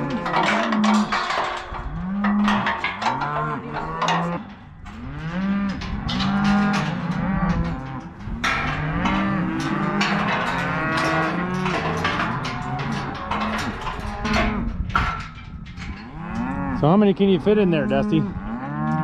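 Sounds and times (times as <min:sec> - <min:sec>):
cattle mooing: 0:00.0 - 0:14.8, 0:15.8 - 0:19.0.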